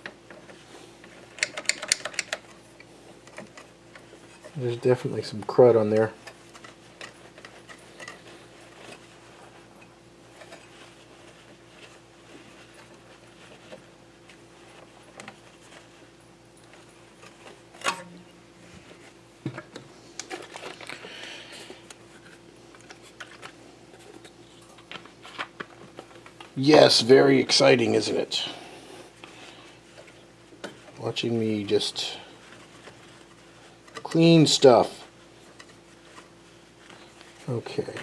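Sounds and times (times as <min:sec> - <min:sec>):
small clicks and rubbing: 0:00.0 - 0:21.1, 0:21.7 - 0:26.6, 0:29.2 - 0:38.0
faint steady hum: 0:00.0 - 0:38.0.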